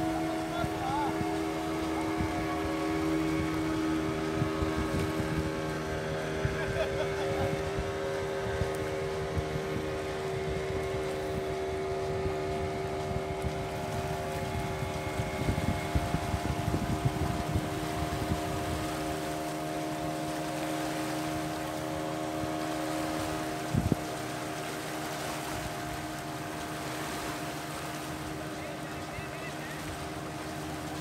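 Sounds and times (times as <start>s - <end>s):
boat engine droning: 0.0s - 31.0s
wind buffeting microphone: 0.0s - 31.0s.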